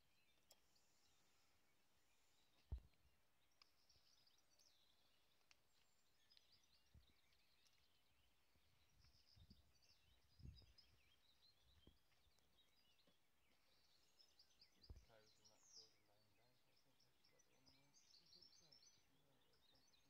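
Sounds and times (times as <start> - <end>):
distant birds twittering: 0.0 - 20.0.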